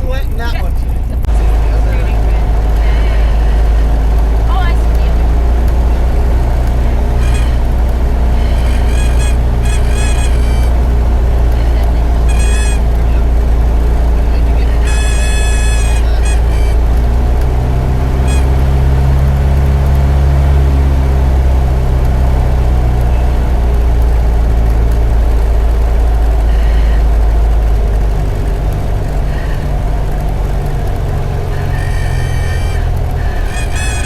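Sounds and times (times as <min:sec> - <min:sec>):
light aircraft engine droning: 0:00.0 - 0:34.0.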